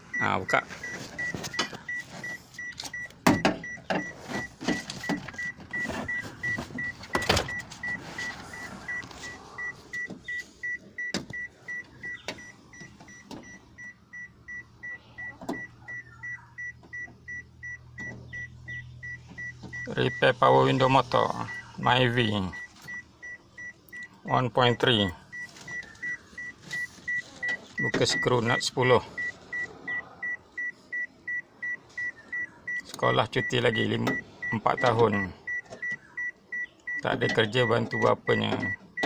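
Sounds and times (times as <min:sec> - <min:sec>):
car warning chime beeping: 0:00.0 - 0:39.0.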